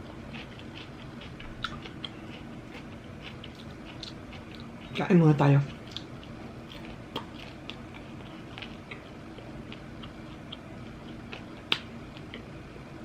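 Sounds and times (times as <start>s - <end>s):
crunchy chewing: 0.0s - 5.0s, 5.7s - 12.5s.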